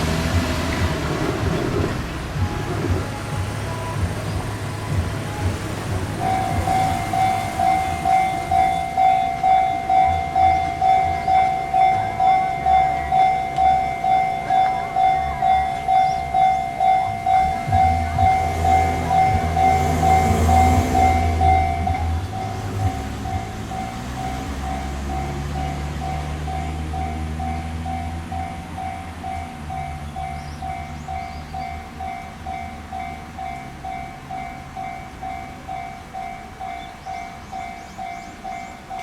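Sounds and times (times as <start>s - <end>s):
train low rumble: 0.0s - 39.0s
level crossing alarm bell: 2.6s - 39.0s.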